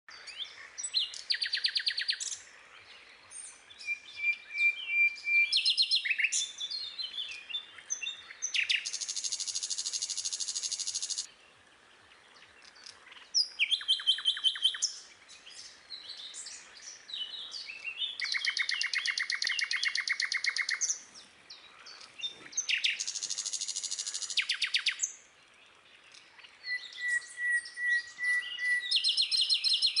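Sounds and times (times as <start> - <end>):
songbird singing trills: 0.1 - 30.0.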